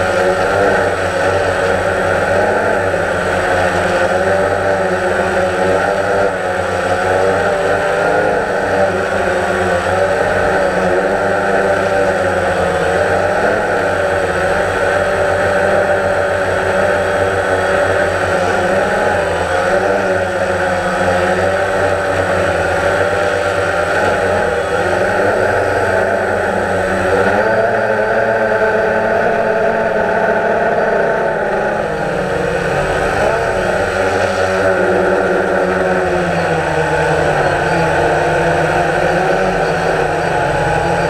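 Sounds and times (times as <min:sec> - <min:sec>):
drone propellers whirring: 0:00.0 - 0:41.0.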